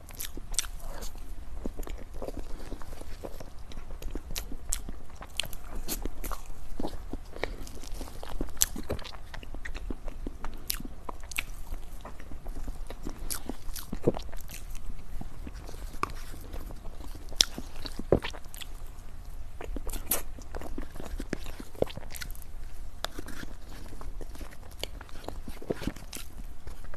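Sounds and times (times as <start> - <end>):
person chewing with mouth clicks: 0.0 - 18.8, 19.6 - 26.9.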